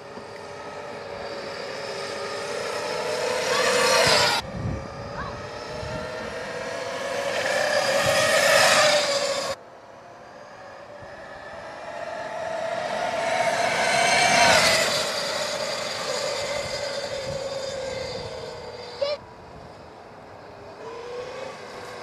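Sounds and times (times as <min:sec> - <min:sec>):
electric dirt bike whining past: 0:00.0 - 0:22.0.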